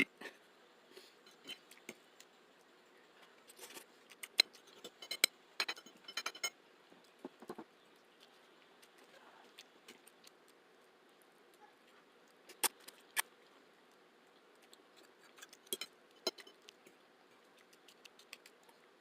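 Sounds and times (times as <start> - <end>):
spaghetti being chewed: 1.0 - 5.2, 6.6 - 19.0.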